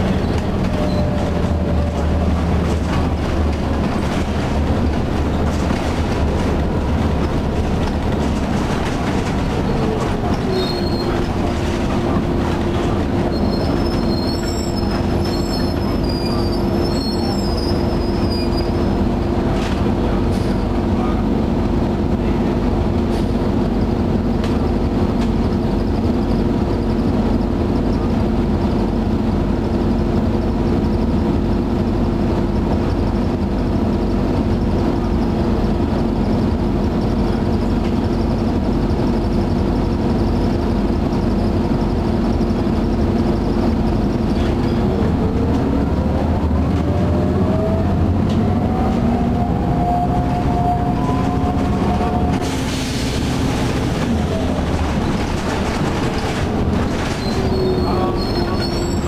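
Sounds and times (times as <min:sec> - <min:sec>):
bus engine and transmission whine: 0:00.0 - 0:59.0.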